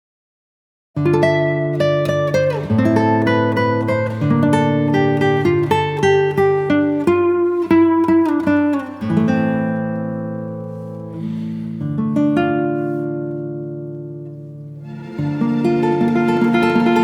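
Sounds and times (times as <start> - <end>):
acoustic guitar picking: 1.0 - 17.0.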